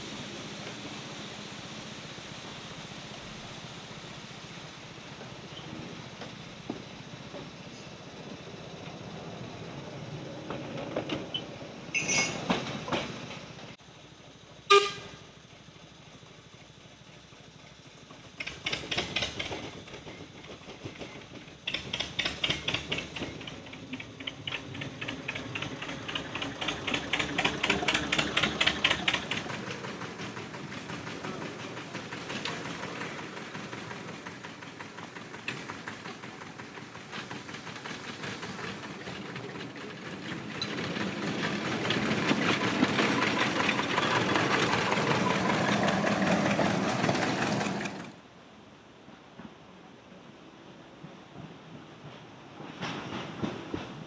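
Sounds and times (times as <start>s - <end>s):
diesel locomotive engine chugging: 0.0s - 48.6s.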